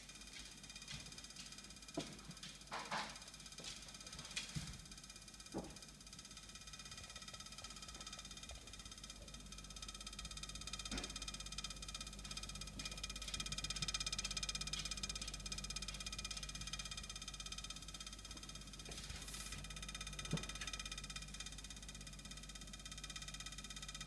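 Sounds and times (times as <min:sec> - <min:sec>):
refrigerator buzzing vibration: 0:00.0 - 0:24.0
refrigerator low hum: 0:00.0 - 0:24.0.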